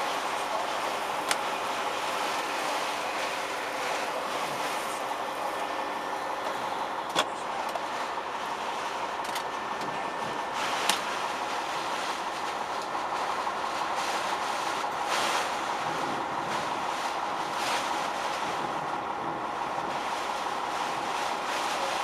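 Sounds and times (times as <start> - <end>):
wind and heavy rain on cab: 0.0 - 22.0.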